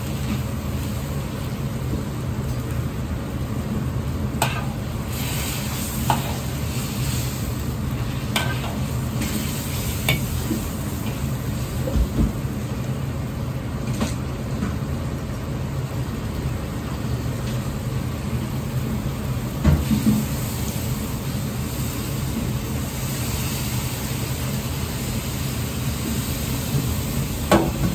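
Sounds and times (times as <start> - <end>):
food sizzling: 0.0 - 13.5, 15.1 - 27.9
gas burner rumbling: 0.0 - 27.9.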